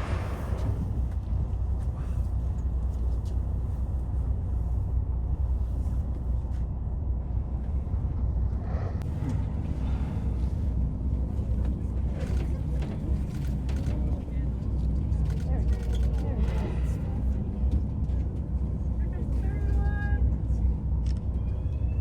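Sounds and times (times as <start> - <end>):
boat engine rumble: 0.0 - 22.0.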